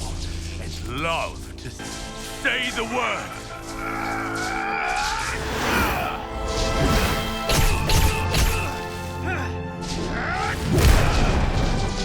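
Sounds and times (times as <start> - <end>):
dramatic orchestral music: 0.0 - 12.0.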